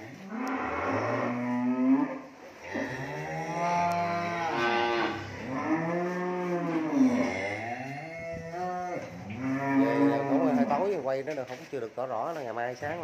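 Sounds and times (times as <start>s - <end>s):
cattle mooing: 0.3s - 11.0s.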